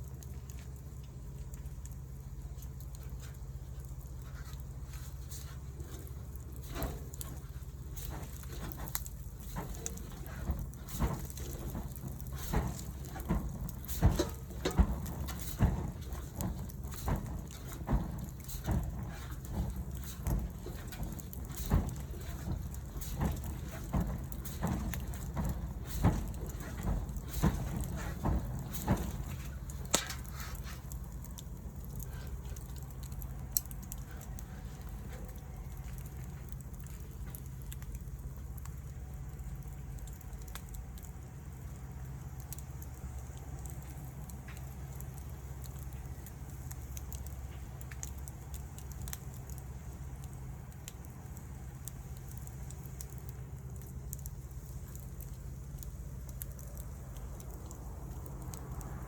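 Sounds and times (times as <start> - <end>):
sharp pops from fire: 0.0 - 59.0
wood fire crackling: 0.0 - 59.0.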